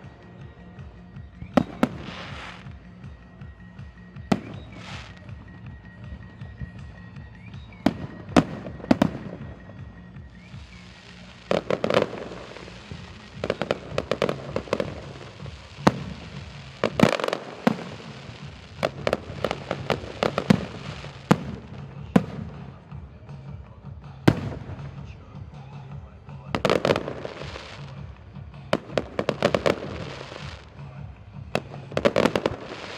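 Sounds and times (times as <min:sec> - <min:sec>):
fireworks bangs: 0:01.4 - 0:02.9, 0:04.1 - 0:32.9.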